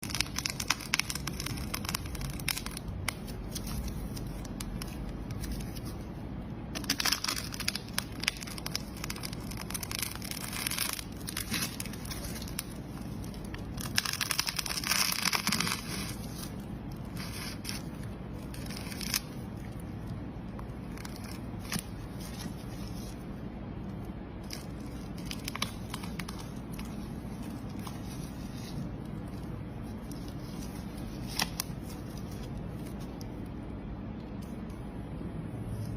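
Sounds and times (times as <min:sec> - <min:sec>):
brittle material crackling: 0:00.0 - 0:33.7.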